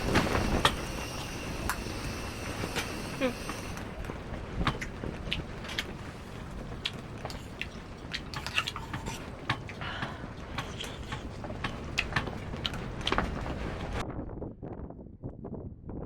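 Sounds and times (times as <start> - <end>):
objects clicking and clattering: 0.0 - 14.0
steady background rush: 0.0 - 14.0.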